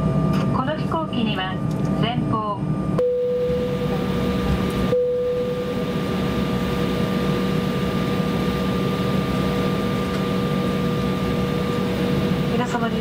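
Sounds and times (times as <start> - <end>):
airliner engines humming and whining: 0.0 - 13.0.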